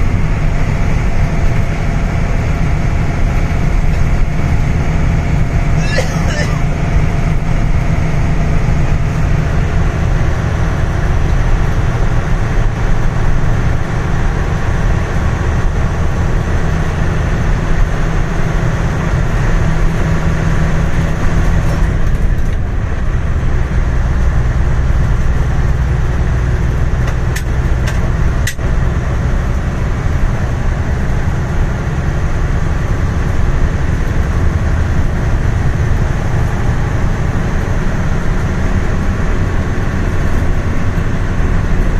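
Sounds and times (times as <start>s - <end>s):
vehicle road and engine rumble: 0.0s - 41.9s.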